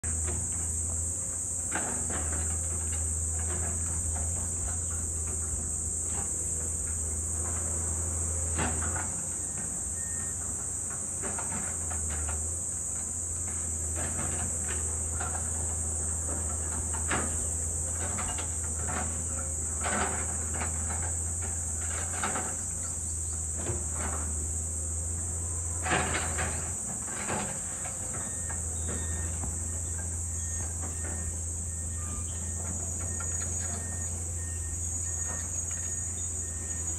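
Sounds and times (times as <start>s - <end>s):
distant diesel engines humming: 0.0s - 36.9s
high-pitched insect drone: 0.1s - 36.9s.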